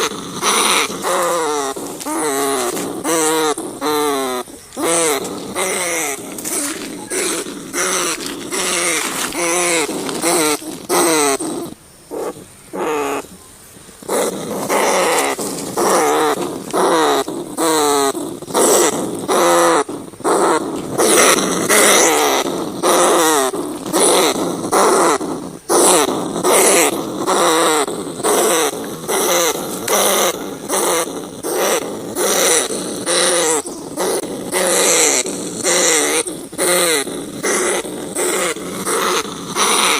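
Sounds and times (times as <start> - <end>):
rats squealing: 0.0 - 13.4, 14.0 - 39.9.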